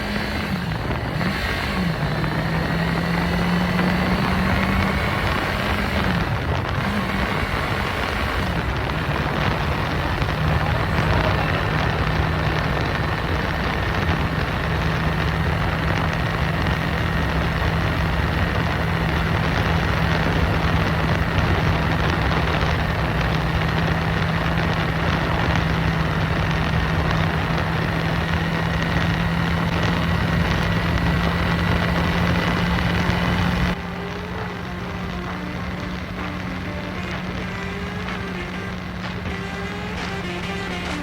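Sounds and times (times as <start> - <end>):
motorcycle engine running: 0.0 - 41.0
wind noise on microphone: 0.0 - 41.0.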